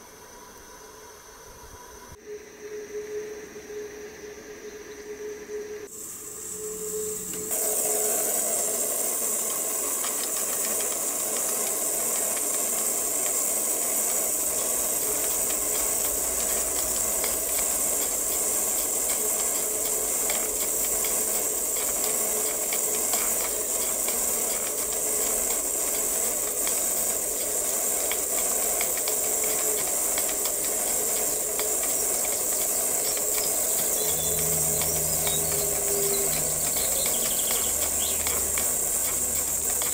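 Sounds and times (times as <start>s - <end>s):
steam hissing from valve: 5.7s - 39.9s.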